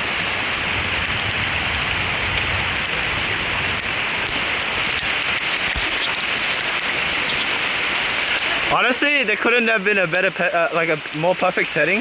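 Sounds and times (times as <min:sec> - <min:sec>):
rain falling on foliage: 0:00.0 - 0:12.0.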